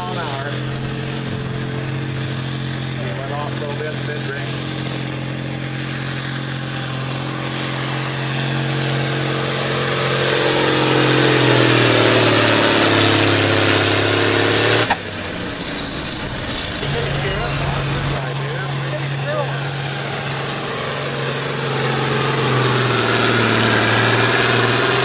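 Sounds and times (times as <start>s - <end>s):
another engine running: 0.0s - 25.0s
tractor diesel engine under load: 0.0s - 25.0s.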